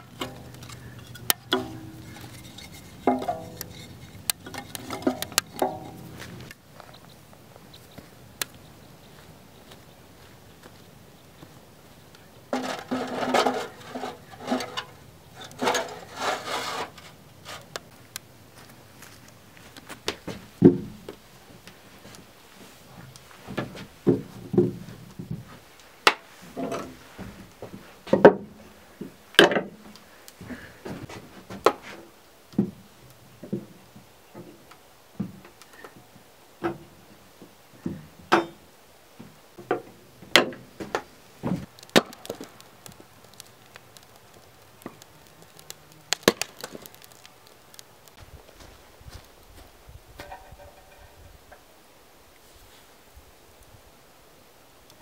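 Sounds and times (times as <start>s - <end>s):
rustling and crackling: 0.0s - 51.7s.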